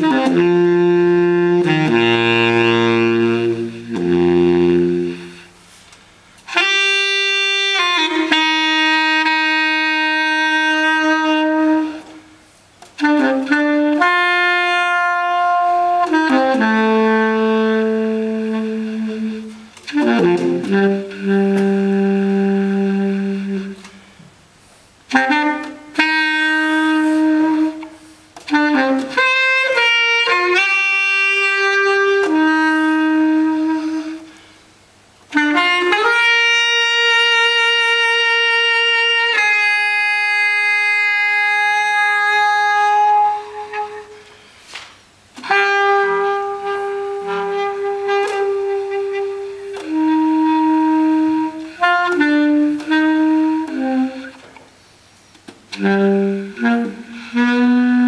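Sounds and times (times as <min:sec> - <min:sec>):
baritone saxophone long notes: 0:00.0 - 0:05.8, 0:06.4 - 0:24.2, 0:25.1 - 0:44.6, 0:45.4 - 0:54.6, 0:55.6 - 0:58.0.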